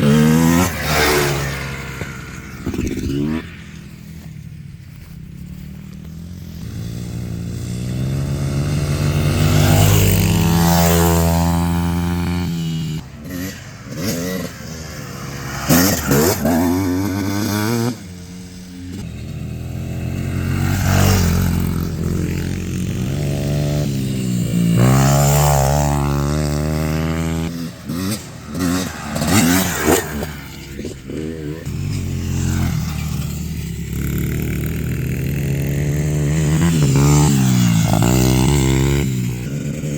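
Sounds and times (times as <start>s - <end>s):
dirt bikes revving past: 0.0s - 39.9s.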